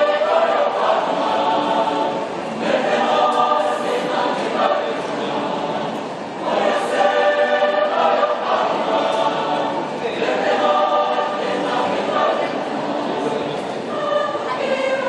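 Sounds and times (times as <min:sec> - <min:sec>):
choir singing in harmony: 0:00.0 - 0:15.0.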